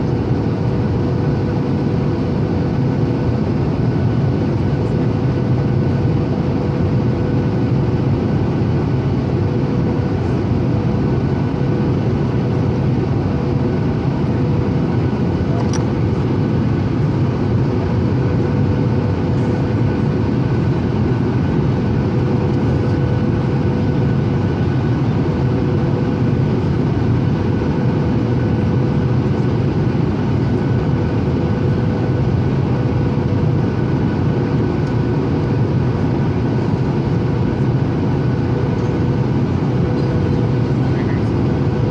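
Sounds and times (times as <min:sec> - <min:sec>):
airplane cabin drone: 0:00.0 - 0:41.9.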